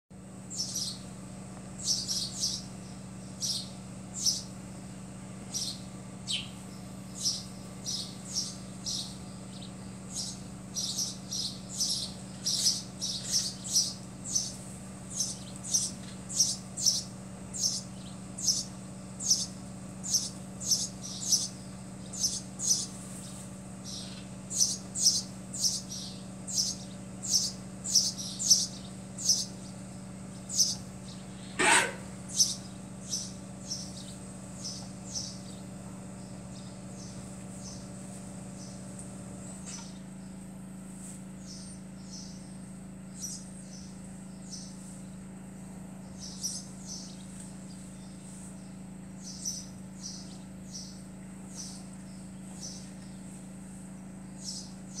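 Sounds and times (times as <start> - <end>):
steady low hum: 0.1 - 55.0
small bird chirping: 0.4 - 4.7, 5.4 - 55.0.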